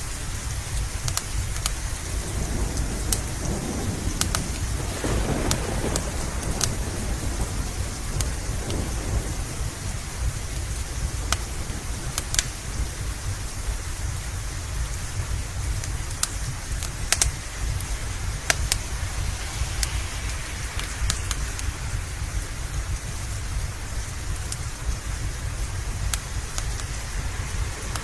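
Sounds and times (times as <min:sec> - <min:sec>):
steady rain: 0:00.0 - 0:28.0
wood fire crackling: 0:00.0 - 0:28.0
low rumble: 0:00.5 - 0:28.0.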